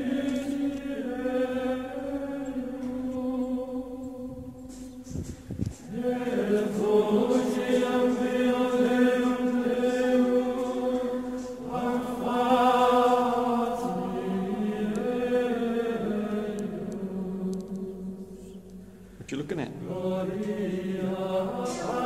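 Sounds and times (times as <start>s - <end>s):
slow chant on held notes: 0.0s - 22.0s.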